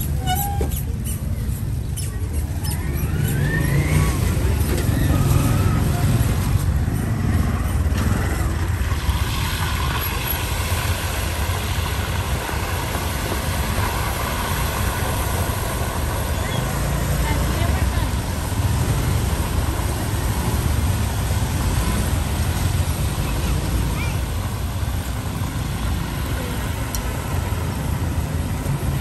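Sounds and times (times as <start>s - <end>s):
traffic engine rumble: 0.0s - 29.0s.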